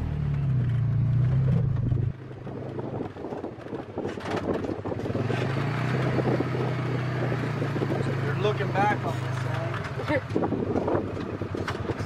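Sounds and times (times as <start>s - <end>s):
vehicle engine hum: 0.0s - 12.0s
vehicle knocking and rattling: 0.2s - 12.0s.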